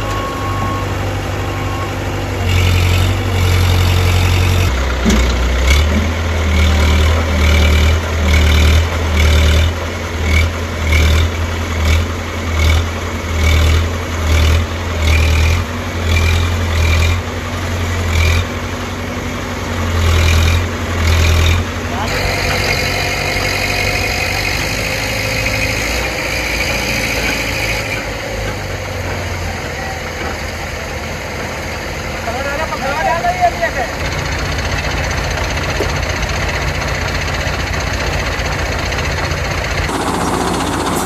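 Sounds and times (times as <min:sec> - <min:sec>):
diesel engine revving: 0:00.0 - 0:32.9, 0:33.6 - 0:41.0.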